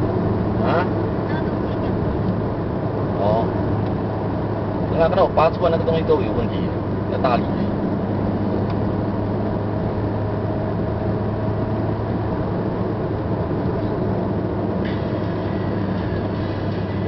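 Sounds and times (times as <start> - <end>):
car engine hum: 0.0 - 17.0
tyres rumbling on road: 0.0 - 17.0.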